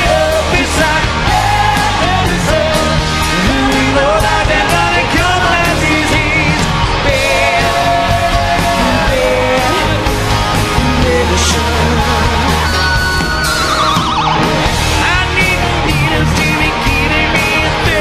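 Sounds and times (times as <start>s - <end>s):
bass: 0.0s - 18.0s
electric guitar: 0.0s - 18.0s
male lead singer: 0.0s - 18.0s
steady drumbeat: 0.0s - 18.0s.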